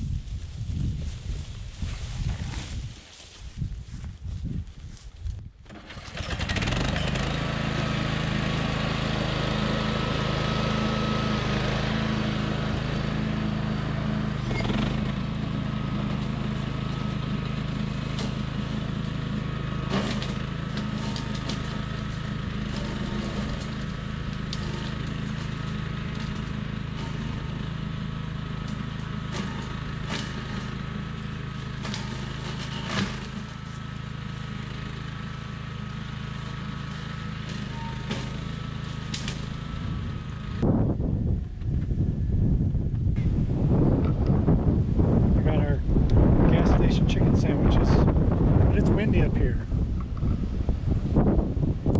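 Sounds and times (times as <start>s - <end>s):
brush cutter engine running: 4.8s - 51.9s.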